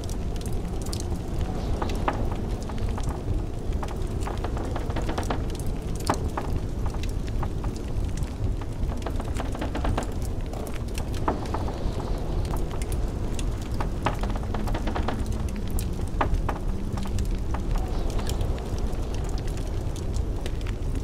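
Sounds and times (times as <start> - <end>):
blizzard wind rumble: 0.0 - 21.0
wood fire crackling: 0.0 - 21.0.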